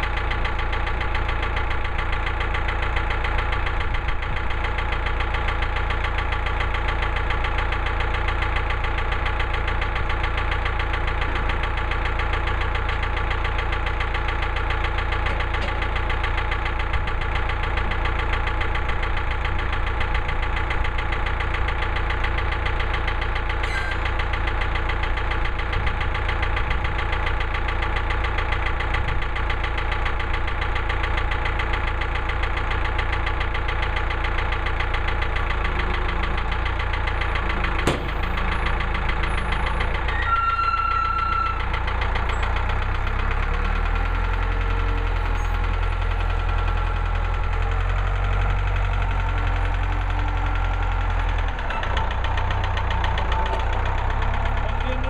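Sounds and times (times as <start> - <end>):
gasoline engine running: 0.0 - 55.0.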